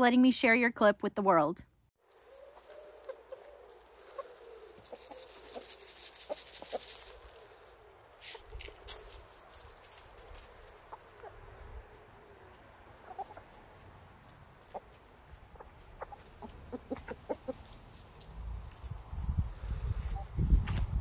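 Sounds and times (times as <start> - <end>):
chickens clucking: 2.1 - 20.4.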